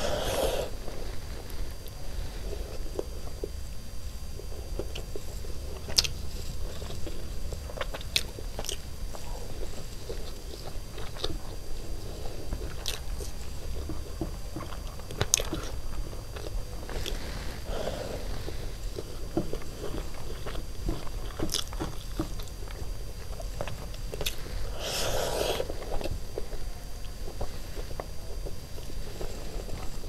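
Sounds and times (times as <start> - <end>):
person chewing food: 0.0 - 3.6, 4.3 - 30.0.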